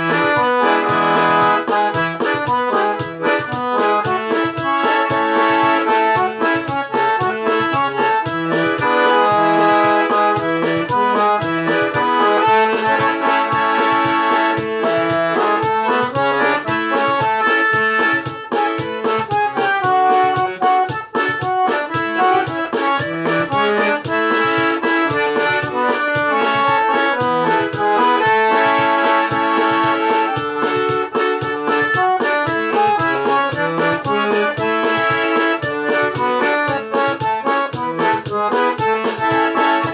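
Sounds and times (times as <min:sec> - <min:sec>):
accordion playing a tune: 0:00.0 - 0:39.9.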